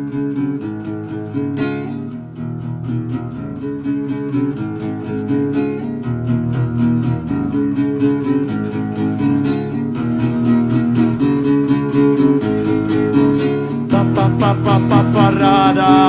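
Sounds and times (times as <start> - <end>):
strummed guitar chords: 0.0 - 16.0.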